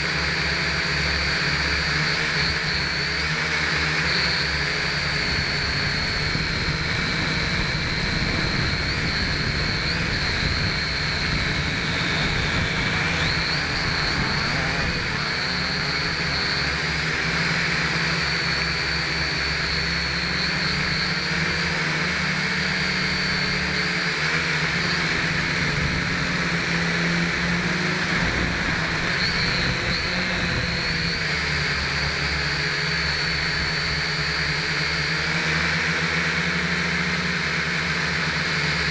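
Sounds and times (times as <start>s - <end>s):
toy drone motors whining: 0.0s - 38.9s.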